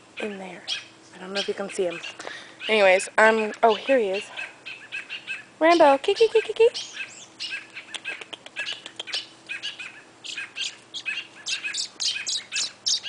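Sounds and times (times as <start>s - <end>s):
songbirds alarm chirps: 0.0s - 13.0s.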